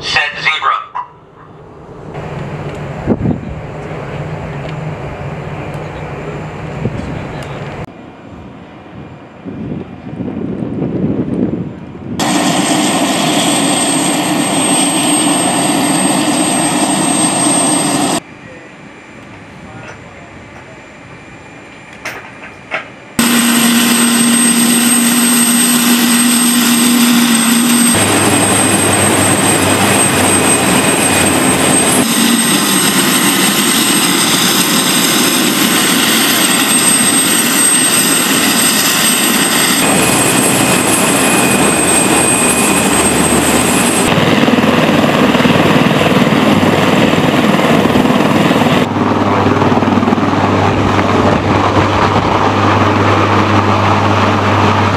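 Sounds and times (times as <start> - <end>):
helicopter engines and rotors: 0.0 - 54.9.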